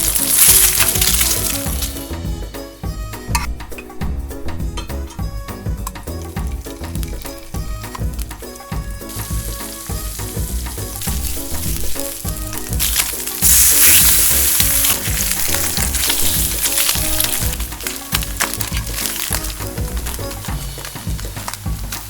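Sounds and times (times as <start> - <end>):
food sizzling in a frying pan: 0.0 - 4.1, 5.8 - 22.0
background music: 0.0 - 22.0.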